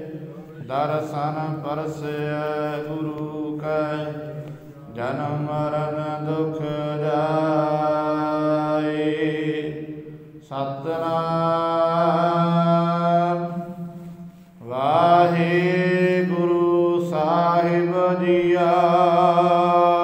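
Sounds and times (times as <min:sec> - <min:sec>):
man chanting: 0:00.0 - 0:13.8, 0:14.6 - 0:20.0.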